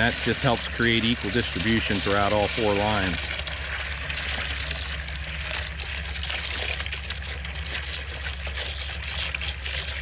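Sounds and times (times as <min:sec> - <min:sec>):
steady low hum: 0:00.0 - 0:10.0
water pouring and splashing: 0:00.0 - 0:10.0.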